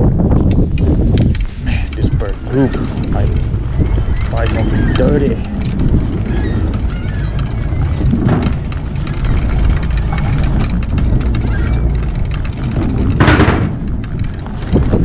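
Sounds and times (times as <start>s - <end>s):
scooter wheels rumbling on planks: 0.0s - 15.0s
wind on microphone: 0.0s - 15.0s.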